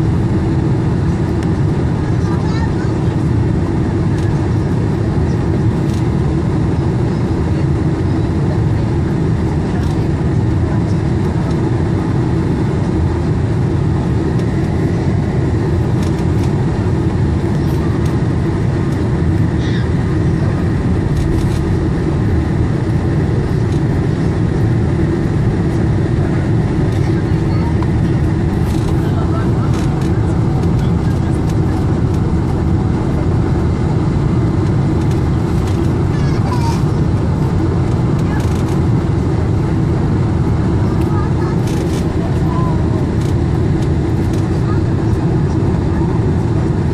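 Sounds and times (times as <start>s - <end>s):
jet engines rumbling: 0.0s - 46.9s
steady hum: 0.0s - 46.9s.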